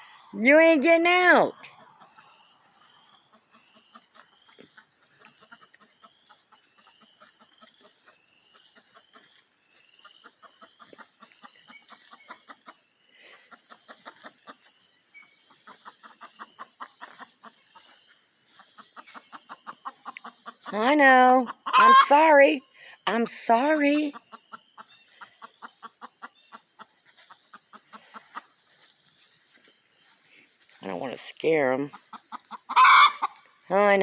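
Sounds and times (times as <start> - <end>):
hens clucking: 1.1 - 34.0.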